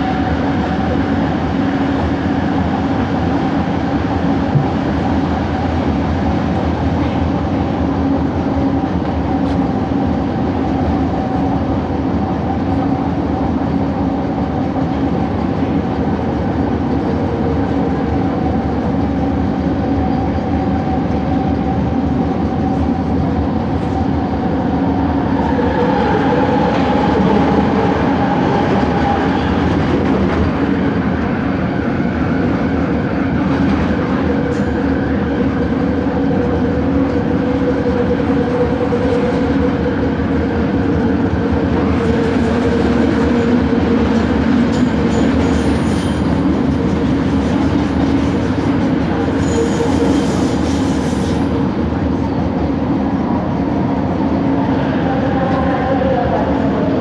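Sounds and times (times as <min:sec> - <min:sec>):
train wheel rumble: 0:00.0 - 0:57.0.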